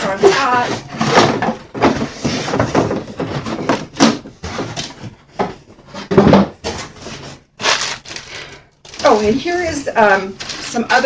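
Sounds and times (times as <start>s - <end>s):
cardboard packaging rustling and scraping: 0.0s - 11.0s.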